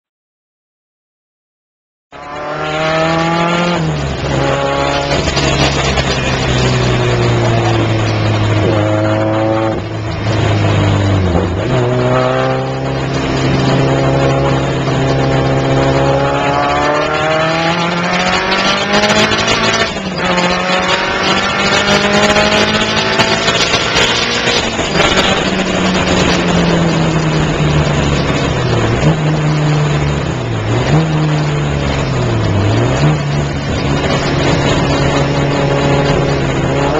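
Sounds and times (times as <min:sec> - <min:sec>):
car engine revving: 0:02.1 - 0:36.9.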